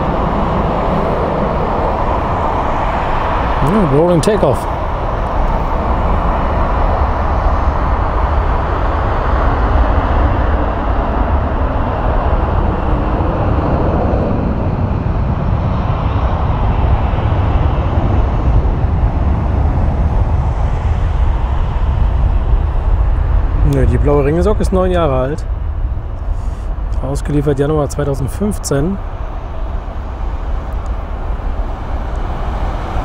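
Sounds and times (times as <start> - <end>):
jet engines at takeoff thrust: 0.0 - 33.0.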